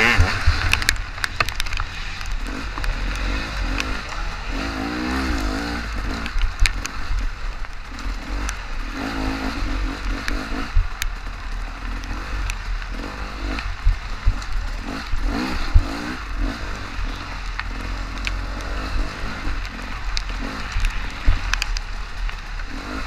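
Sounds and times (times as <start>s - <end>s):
dirt bike engine revving: 0.0s - 23.0s
knocks and clatter from bike: 0.0s - 23.0s.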